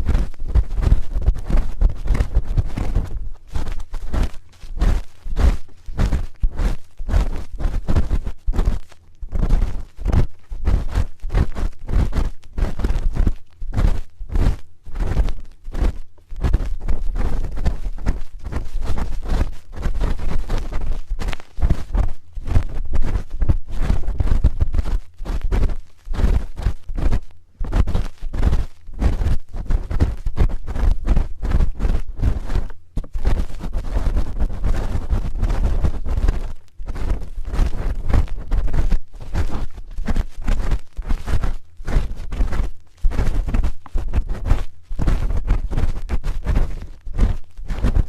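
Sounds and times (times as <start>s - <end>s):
ear pick scraping microphone: 0.0s - 48.0s.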